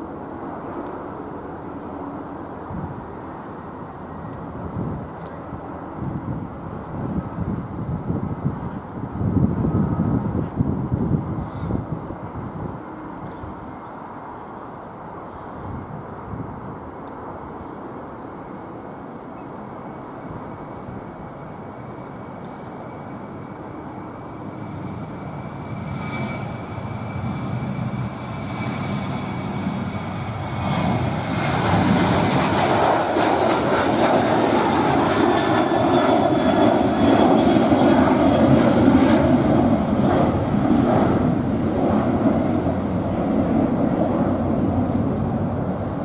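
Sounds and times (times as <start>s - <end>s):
jet engines at takeoff power: 0.0s - 46.0s.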